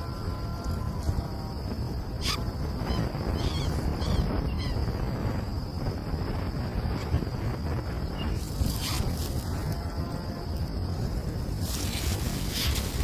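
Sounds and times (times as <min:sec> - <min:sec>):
high-pitched insect drone: 0:00.0 - 0:13.0
low wind rumble: 0:00.0 - 0:13.0.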